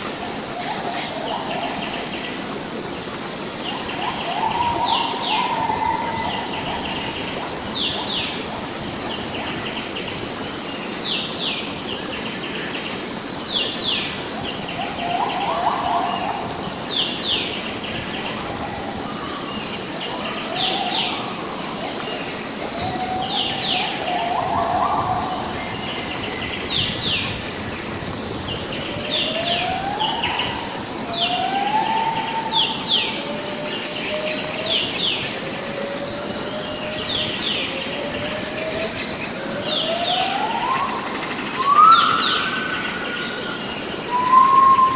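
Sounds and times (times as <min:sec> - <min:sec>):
birds calling: 0:00.0 - 0:44.9
steady background hiss: 0:00.0 - 0:44.9.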